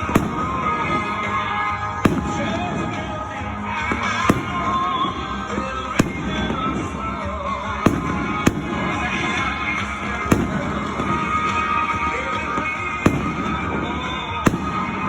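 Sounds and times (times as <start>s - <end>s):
background music: 0.0s - 15.0s
fireworks bangs: 0.0s - 15.0s.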